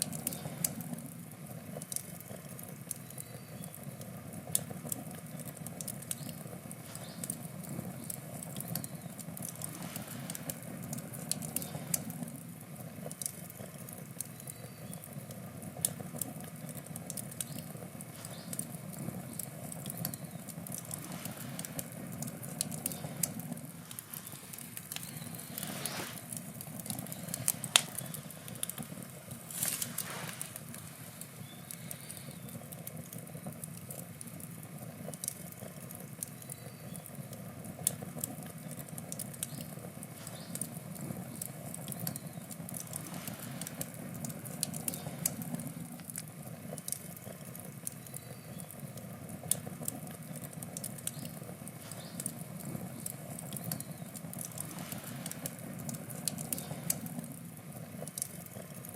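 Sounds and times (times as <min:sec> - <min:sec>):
low rush of flames: 0:00.0 - 0:58.9
wood fire crackling and popping: 0:00.0 - 0:58.9.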